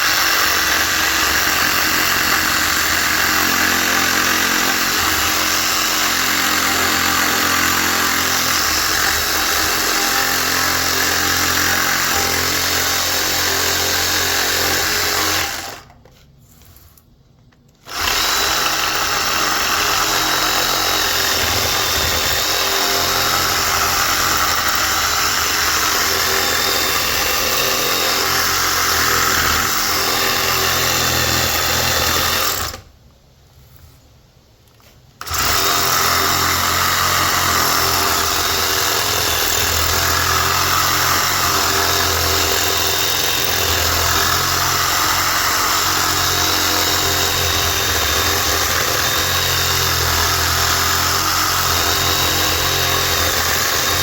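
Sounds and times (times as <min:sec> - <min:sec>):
power tool running: 0:00.0 - 0:15.9, 0:17.8 - 0:32.9, 0:35.2 - 0:54.0.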